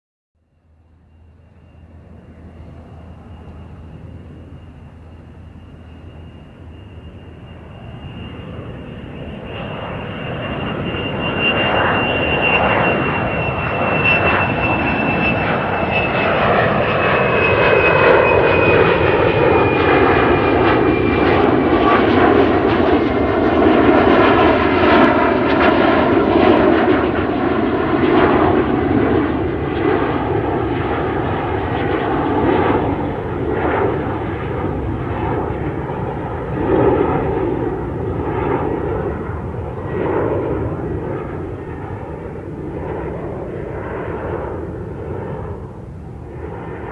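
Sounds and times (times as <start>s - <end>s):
airplane engines passing: 0.4s - 46.9s
high engine whine sliding down: 0.7s - 45.9s.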